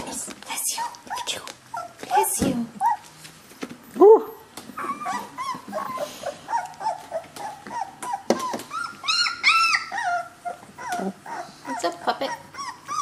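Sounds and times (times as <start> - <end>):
high-pitched puppy whines: 0.6 - 3.2, 4.0 - 13.0
puppies whimpering: 0.8 - 3.2, 4.2 - 13.0.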